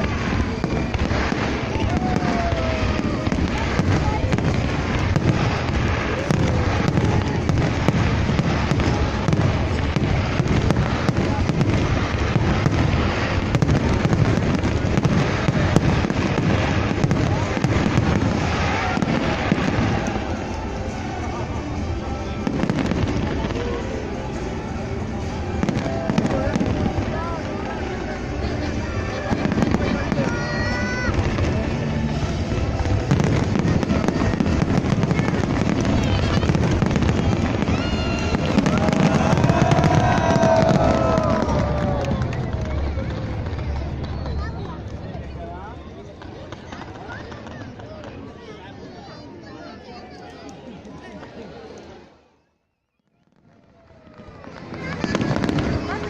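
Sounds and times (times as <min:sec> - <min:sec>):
fireworks bangs and crackles: 0:00.0 - 0:52.0, 0:53.0 - 0:56.0.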